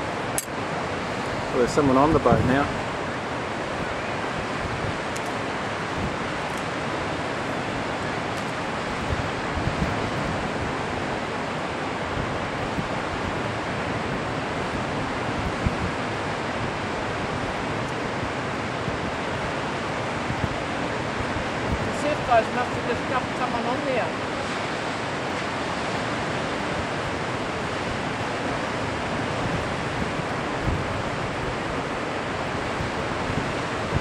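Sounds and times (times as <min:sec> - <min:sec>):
ocean surf breaking: 0:00.0 - 0:34.0
wind on microphone: 0:00.0 - 0:34.0.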